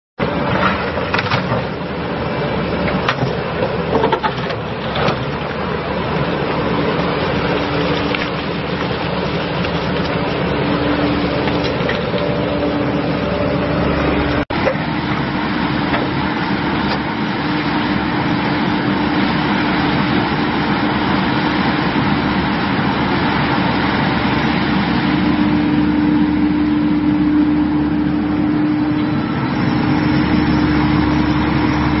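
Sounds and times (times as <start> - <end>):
excavator diesel engine running: 0.2 - 32.0.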